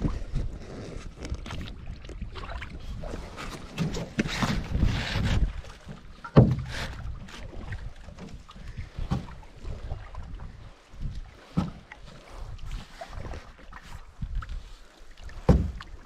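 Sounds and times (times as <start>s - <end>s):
canoe paddles splashing in water: 0.0s - 16.0s.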